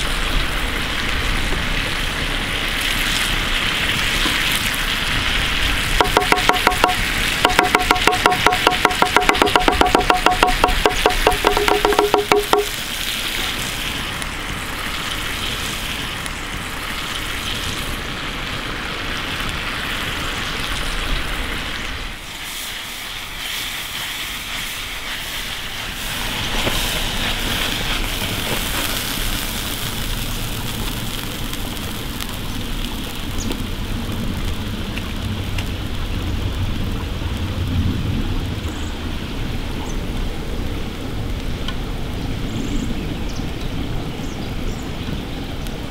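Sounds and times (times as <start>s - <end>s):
curry sizzling in a pan: 0.0s - 36.8s
campfire crackling: 0.0s - 45.9s.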